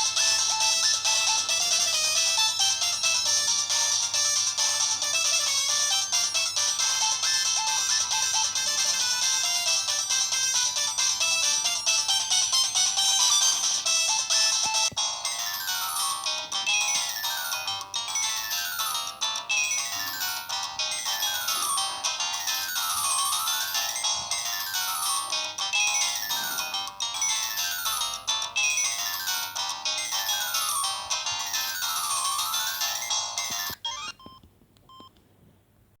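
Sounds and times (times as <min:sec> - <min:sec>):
mobile phone ringtone melody: 0:00.0 - 0:35.1.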